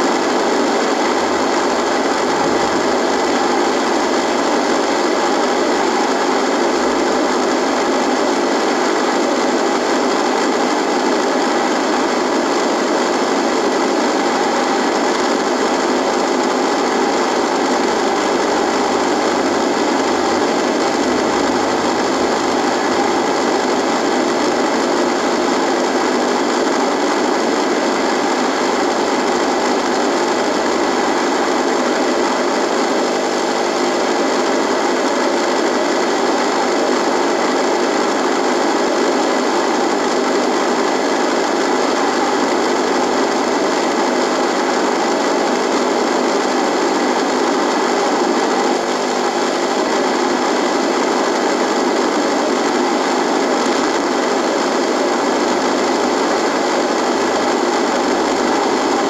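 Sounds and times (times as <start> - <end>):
radio static buzzing: 0.0 - 59.0.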